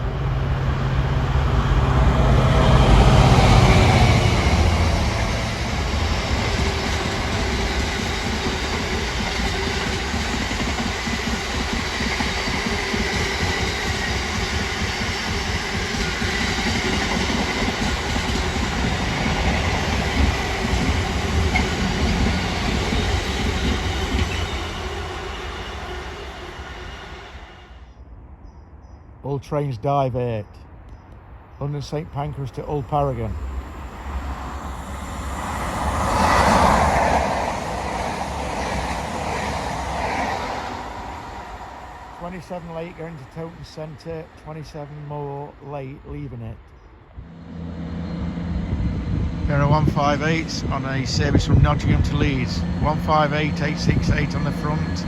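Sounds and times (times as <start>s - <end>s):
diesel locomotive: 0.0s - 28.0s, 31.1s - 55.0s.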